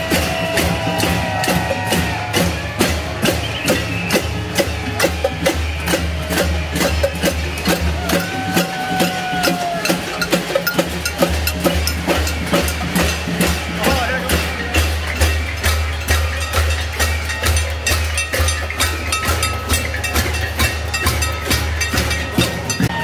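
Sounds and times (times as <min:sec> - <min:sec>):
crowd banging pots and pans: 0:00.0 - 0:23.0
pulsing low drum beat: 0:00.0 - 0:23.0.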